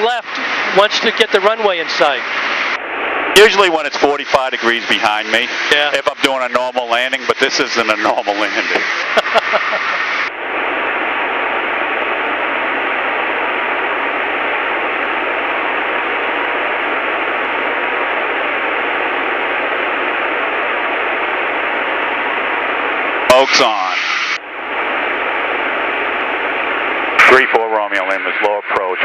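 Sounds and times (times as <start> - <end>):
cockpit noise hiss: 0.0 - 29.0.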